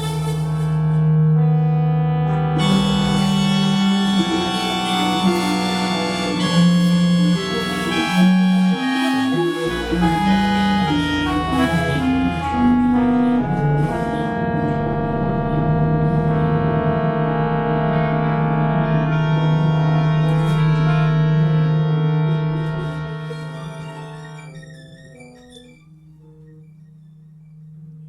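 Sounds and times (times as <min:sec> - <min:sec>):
held keyboard chords: 0:00.0 - 0:28.0.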